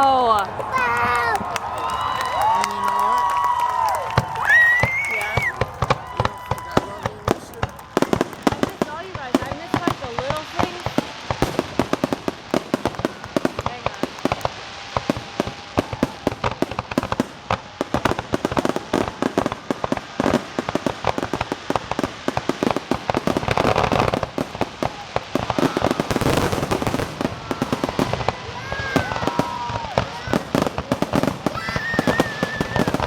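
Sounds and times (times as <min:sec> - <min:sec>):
fireworks crackling and popping: 0:00.0 - 0:33.0
fireworks whistling: 0:00.0 - 0:33.0
fireworks hissing burst: 0:04.2 - 0:33.0.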